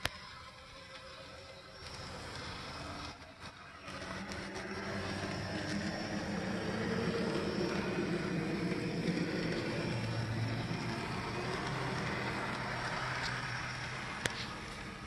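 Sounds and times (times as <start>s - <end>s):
model train motor whirring: 0.0s - 15.0s
wheels rolling on rails: 0.0s - 15.0s.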